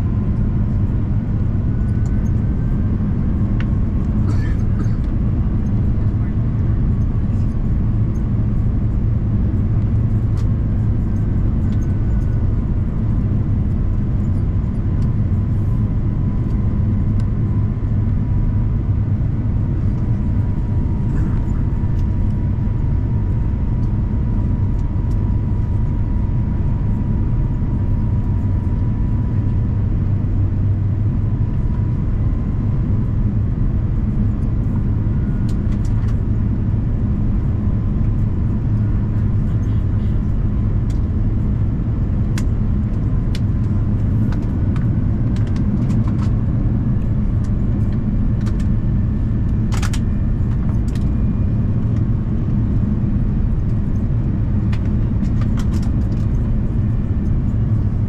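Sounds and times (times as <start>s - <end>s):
airflow and engine rumble: 0.0s - 58.0s.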